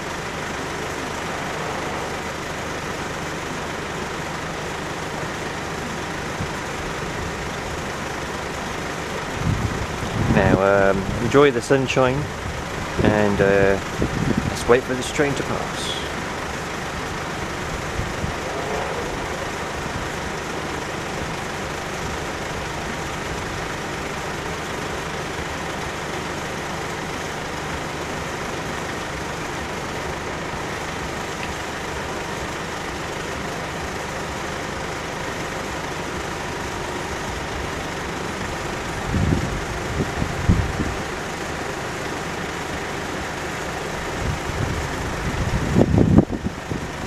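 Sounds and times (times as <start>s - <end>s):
cars idling: 0.0s - 47.0s
road traffic hum: 0.0s - 47.0s.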